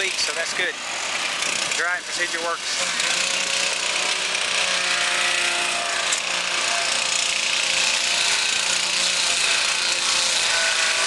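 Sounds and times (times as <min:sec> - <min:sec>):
engine drone: 0:00.0 - 0:11.0
roof cutter grinding: 0:00.0 - 0:11.0.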